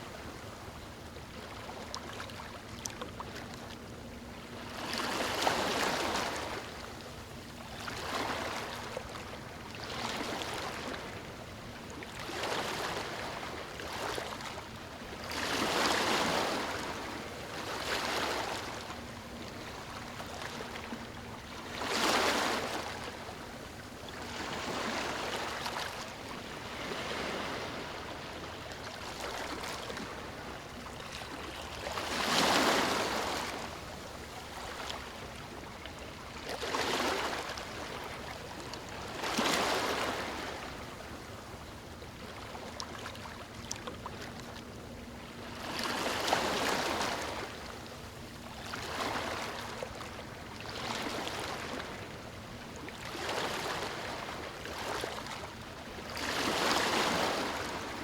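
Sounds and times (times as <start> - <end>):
ocean waves on beach: 3.4 - 58.0.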